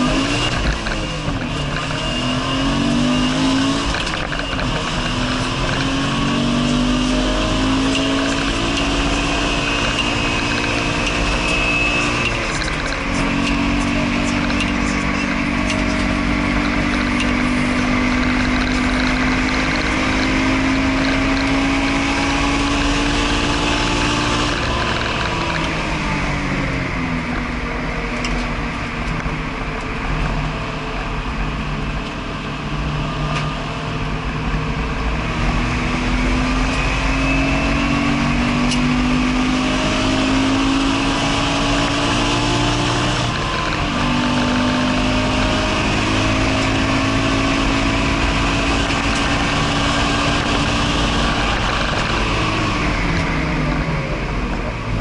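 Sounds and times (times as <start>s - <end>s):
car engine under hard driving: 0.0s - 55.0s.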